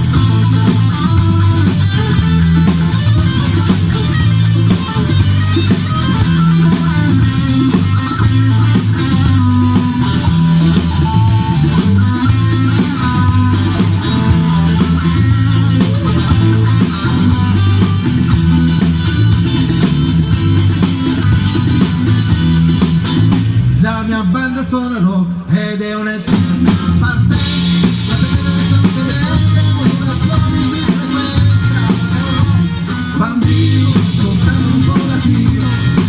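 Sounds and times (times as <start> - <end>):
drum beat: 0.0 - 23.7, 26.4 - 32.6
bass guitar: 0.0 - 36.0
electric guitar: 0.0 - 36.0.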